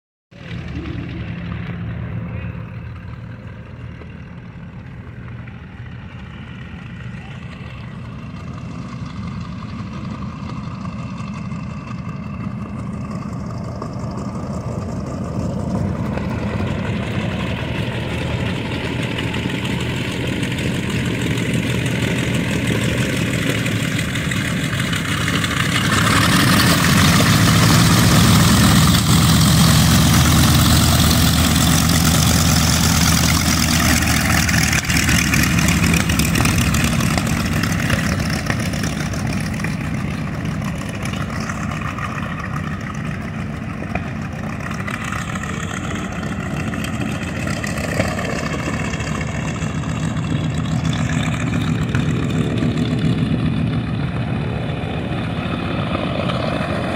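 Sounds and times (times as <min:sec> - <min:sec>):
aircraft radial engines running: 0:00.3 - 0:56.9.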